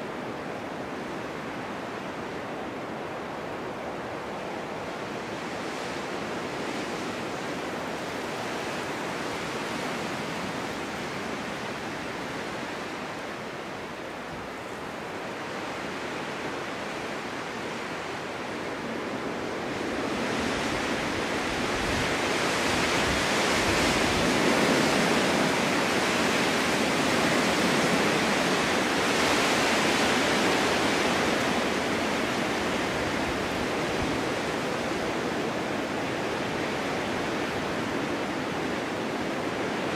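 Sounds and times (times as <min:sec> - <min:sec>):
snowstorm wind rushing: 0:00.0 - 0:39.9.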